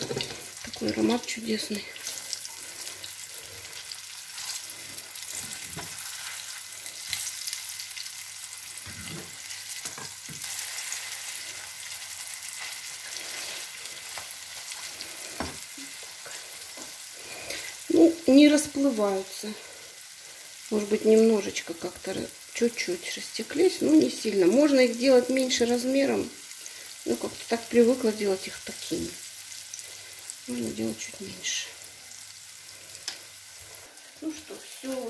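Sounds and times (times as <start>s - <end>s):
pancakes sizzling in oil: 0.0s - 35.0s.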